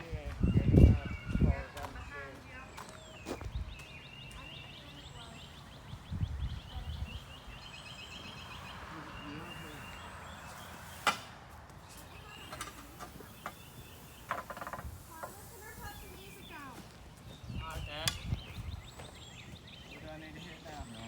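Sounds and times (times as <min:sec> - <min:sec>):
small bird singing high chirps: 0:00.4 - 0:11.0, 0:11.8 - 0:21.0.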